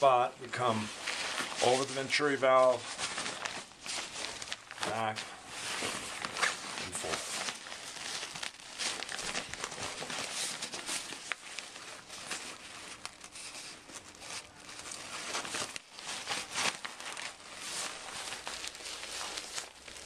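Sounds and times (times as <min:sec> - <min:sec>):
fabric rustling and crinkling: 0:00.0 - 0:20.0.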